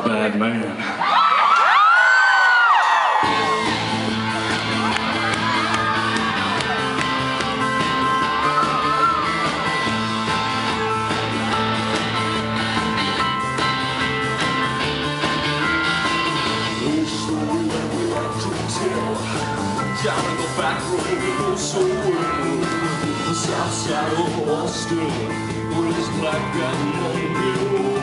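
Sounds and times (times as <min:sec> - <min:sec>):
guitar lines: 0:03.2 - 0:28.0
rock band playing: 0:03.2 - 0:28.0.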